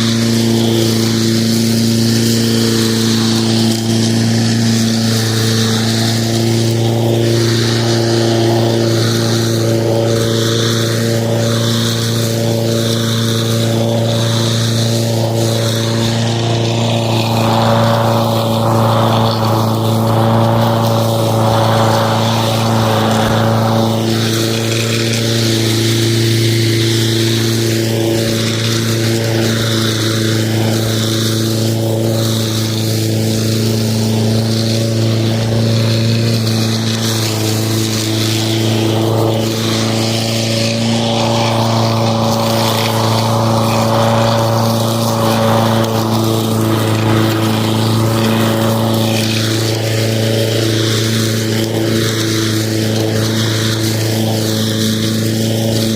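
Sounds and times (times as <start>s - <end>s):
lawn mower running: 0.0s - 55.9s.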